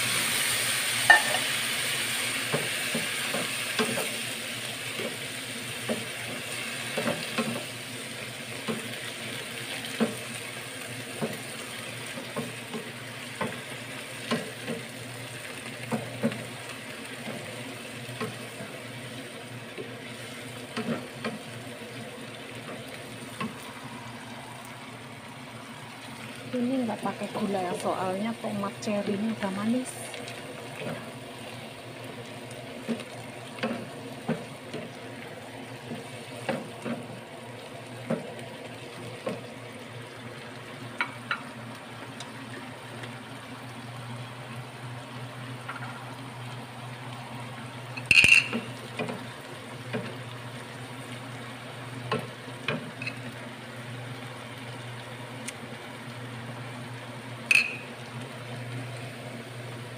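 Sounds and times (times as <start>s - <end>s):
chillies sizzling in a pan: 0.0s - 59.9s.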